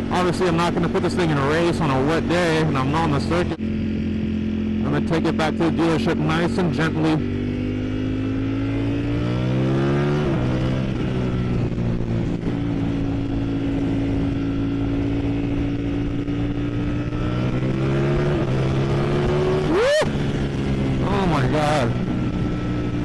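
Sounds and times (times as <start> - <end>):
motorcycle engine revving: 0.0 - 23.0
wind and road noise: 0.0 - 23.0.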